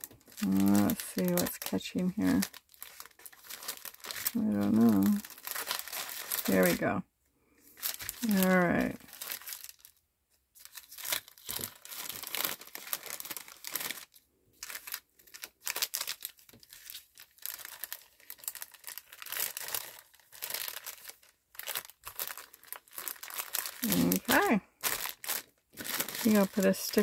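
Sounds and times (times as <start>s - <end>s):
plastic bag crinkling: 0.0s - 7.0s, 7.6s - 27.0s.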